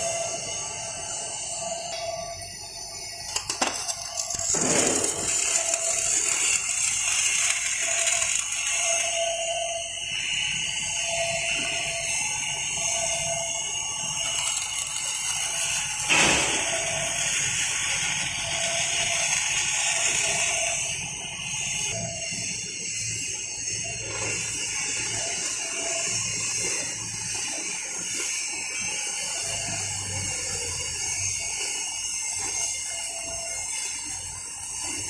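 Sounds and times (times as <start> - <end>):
machine hiss: 0.0 - 35.0.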